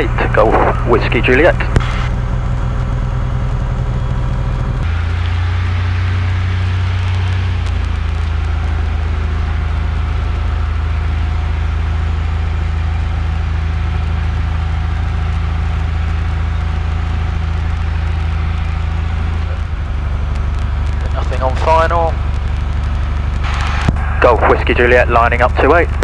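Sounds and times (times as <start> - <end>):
piston aircraft engine droning: 0.0 - 26.0.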